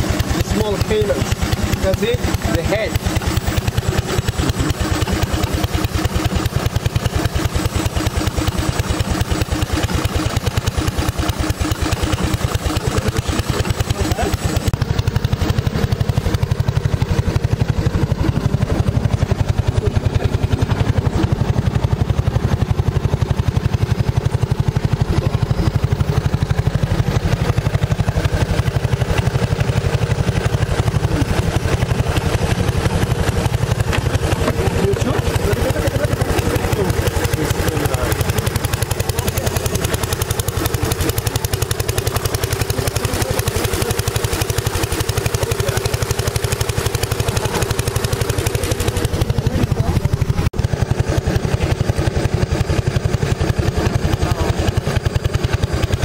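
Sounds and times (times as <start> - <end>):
boat motor running: 0.0 - 56.0.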